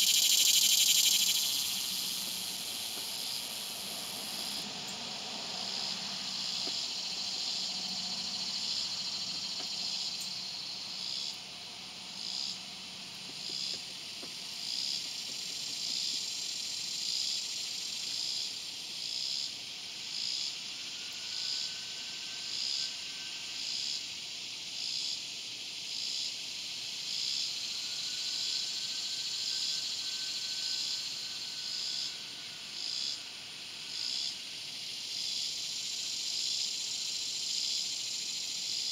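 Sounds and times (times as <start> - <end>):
cicada buzzing drone: 0.0 - 38.9.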